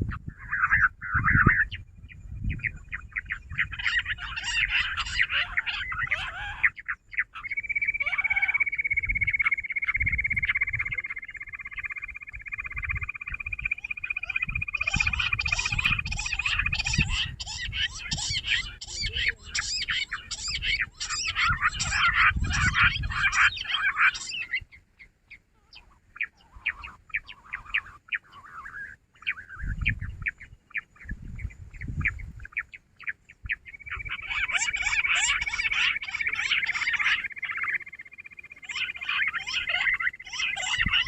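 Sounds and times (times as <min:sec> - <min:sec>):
quail calling in chattering bursts: 0:00.0 - 0:01.8, 0:02.6 - 0:31.2, 0:31.8 - 0:41.0.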